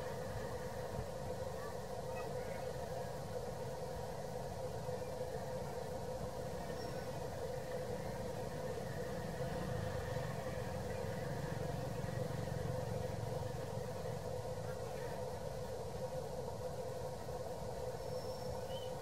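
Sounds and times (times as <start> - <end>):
engine-like low rumble: 0.0 - 19.0.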